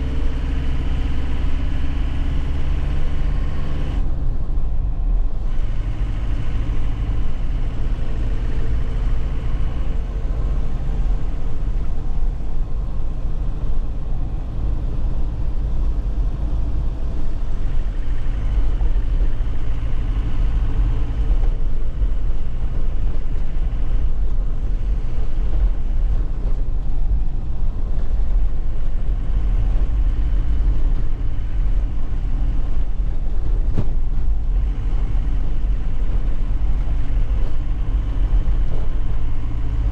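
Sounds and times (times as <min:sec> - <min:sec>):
road and tyre noise: 0:00.0 - 0:39.9
truck engine running: 0:00.0 - 0:39.9.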